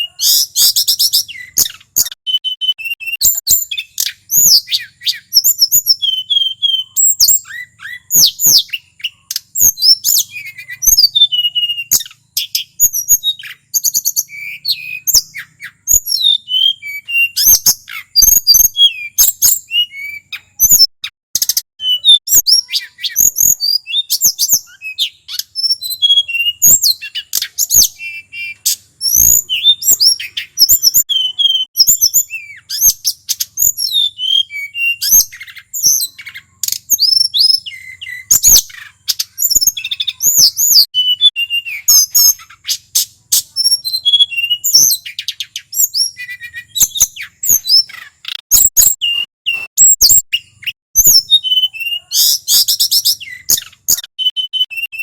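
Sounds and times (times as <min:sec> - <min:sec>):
bird singing whistled trills: 0:00.0 - 0:55.0.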